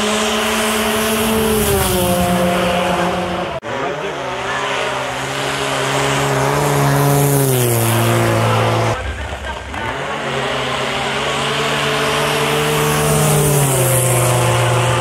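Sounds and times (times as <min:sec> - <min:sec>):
snowmobile engines at full throttle: 0:00.0 - 0:15.0.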